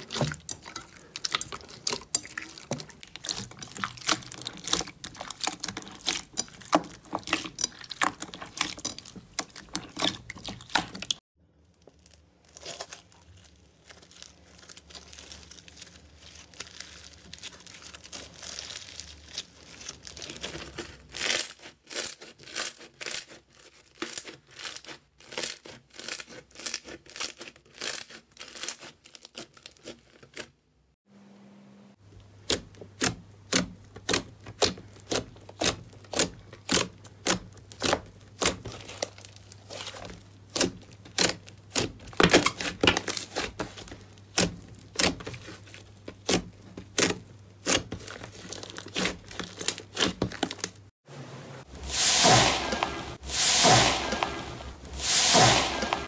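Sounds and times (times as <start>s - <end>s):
slime crackling: 0.0s - 30.5s, 32.4s - 50.9s.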